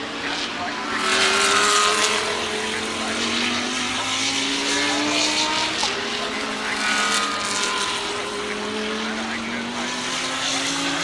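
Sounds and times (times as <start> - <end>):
race car engines at high revs: 0.0 - 11.0.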